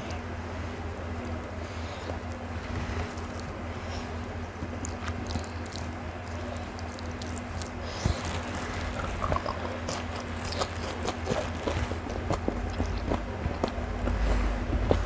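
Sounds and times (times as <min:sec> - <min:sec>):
steady low hum: 0:00.0 - 0:15.0
person chewing: 0:01.2 - 0:15.0.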